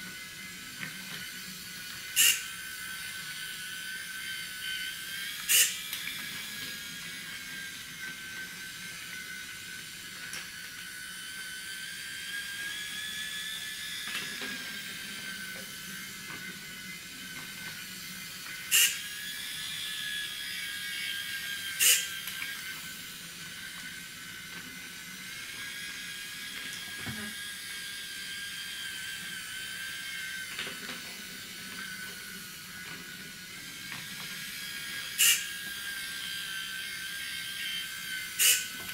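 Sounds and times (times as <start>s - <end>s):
toy train motor whine: 0.0s - 38.9s
servo whirring: 0.1s - 30.5s, 31.2s - 38.9s.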